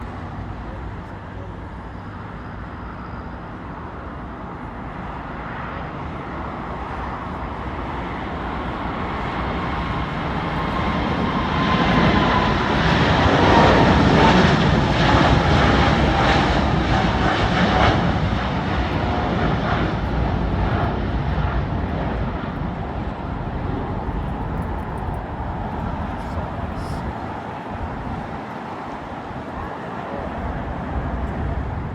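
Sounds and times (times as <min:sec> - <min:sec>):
jet airliner taking off: 0:00.0 - 0:31.9.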